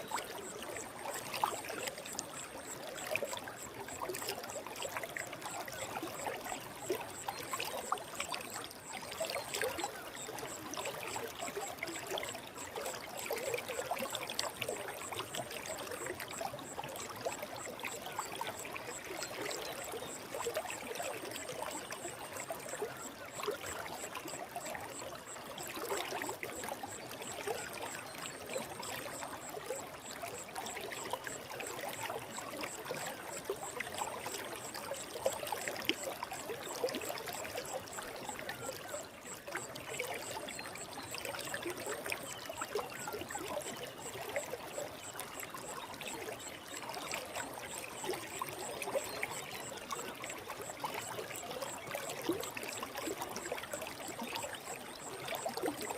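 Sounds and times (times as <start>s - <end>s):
stream babbling and bubbling: 0.0s - 55.9s.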